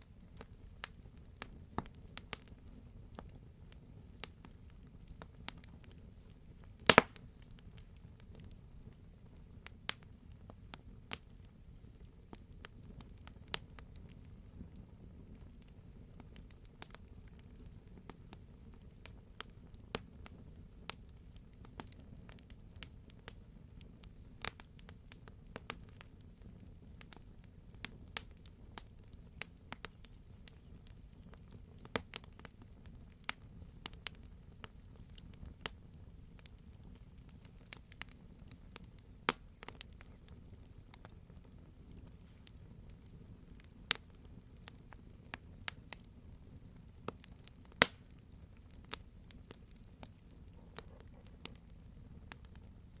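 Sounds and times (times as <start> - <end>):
campfire crackling: 0.0 - 53.0
low rumble of flames: 0.0 - 53.0.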